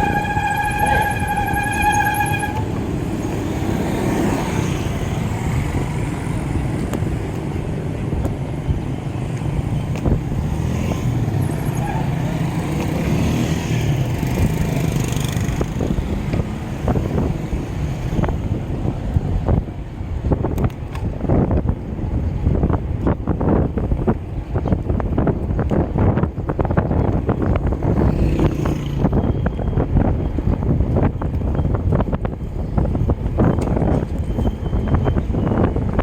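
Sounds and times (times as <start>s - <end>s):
road traffic: 0.0s - 36.0s
wind rushing over microphone: 0.0s - 36.0s.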